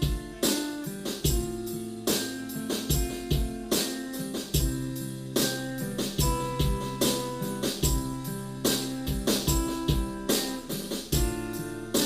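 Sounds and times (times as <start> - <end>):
held chords: 0.0 - 12.0
steady drum beat: 0.0 - 12.0.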